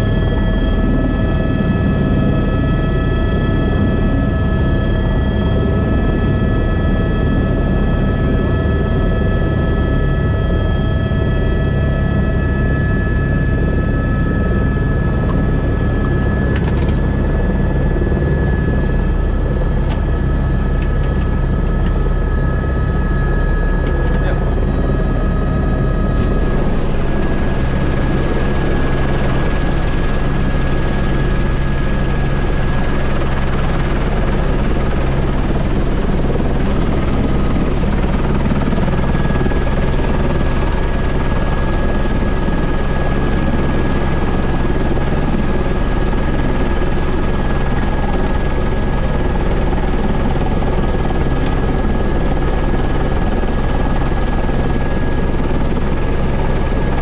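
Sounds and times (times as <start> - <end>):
helicopter rotor and engine hum: 0.0 - 57.0
high turbine whine: 0.0 - 57.0.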